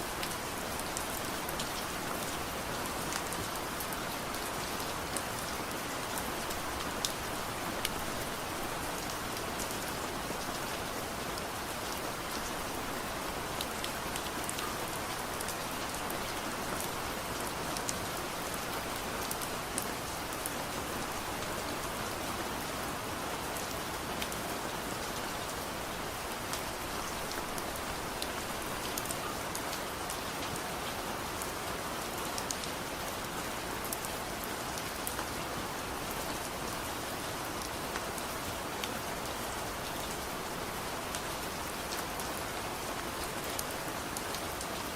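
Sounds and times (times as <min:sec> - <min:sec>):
soft steady rain: 0:00.0 - 0:44.9.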